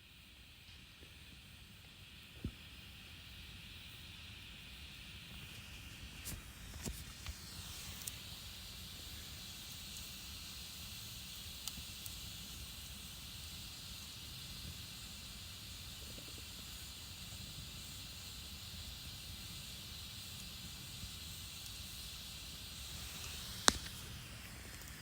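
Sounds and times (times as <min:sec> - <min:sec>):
campfire hissing: 0:00.0 - 0:25.0
fire crackles and pops: 0:00.5 - 0:25.0.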